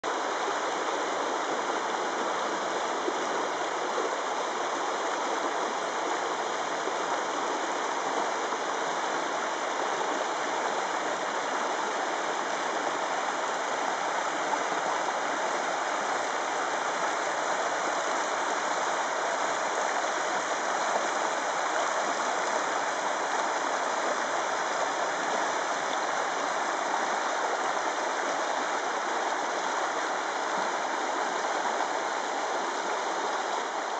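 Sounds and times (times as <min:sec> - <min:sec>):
creek rushing over rocks: 0:00.0 - 0:33.9.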